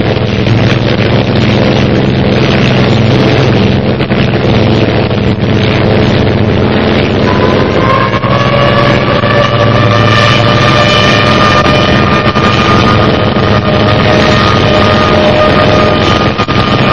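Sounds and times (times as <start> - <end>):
high whine rising in pitch: 0.0 - 16.9
cartoon wasps buzzing drone: 0.1 - 16.9.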